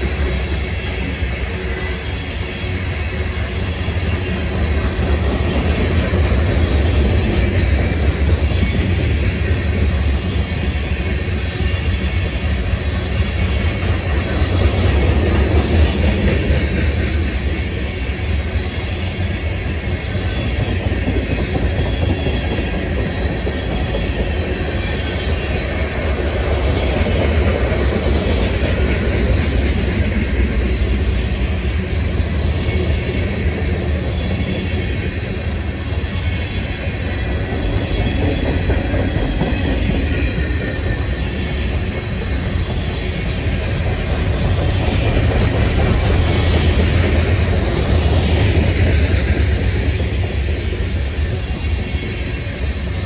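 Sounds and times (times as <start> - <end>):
freight train wheels rumbling on rails: 0.0 - 53.0.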